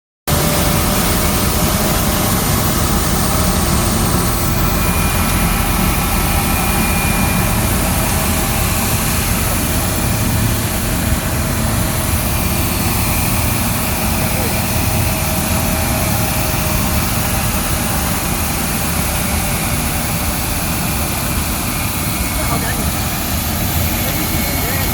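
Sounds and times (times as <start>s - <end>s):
faint steady whining tones: 0.3s - 24.9s
road cleaning truck machinery noise: 0.3s - 24.9s.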